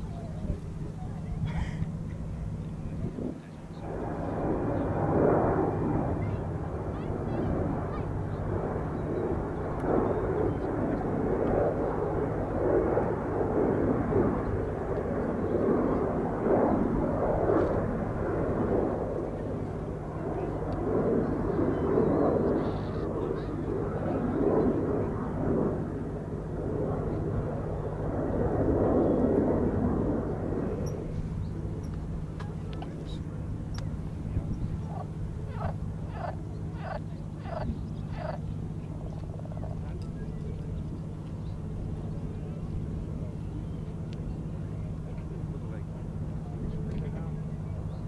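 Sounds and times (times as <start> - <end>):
jet engine roar: 0.0 - 48.0
low hum: 0.0 - 48.0.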